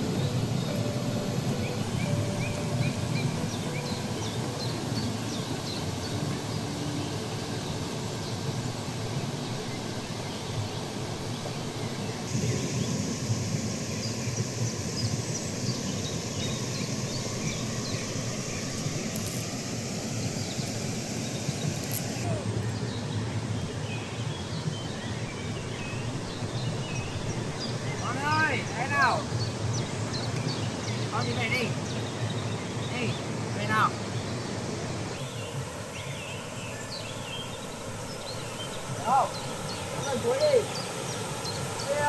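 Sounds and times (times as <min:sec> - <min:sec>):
small birds chirping: 0:00.0 - 0:42.0
waterfall rushing: 0:00.0 - 0:42.0.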